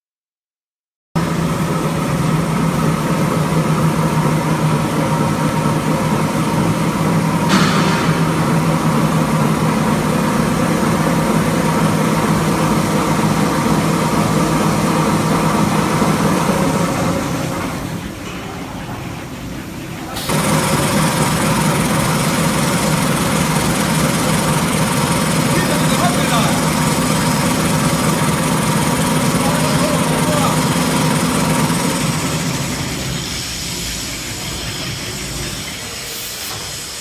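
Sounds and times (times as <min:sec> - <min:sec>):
machine droning: 0:01.2 - 0:37.0.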